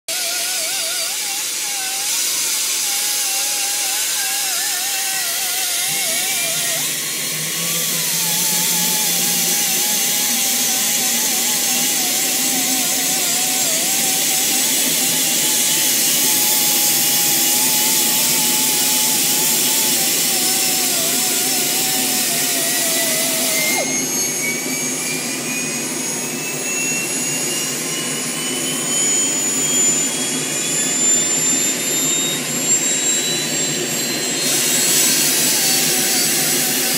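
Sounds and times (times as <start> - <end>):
turbine engine whine: 0.1 - 36.9
wavering hum: 0.4 - 36.9.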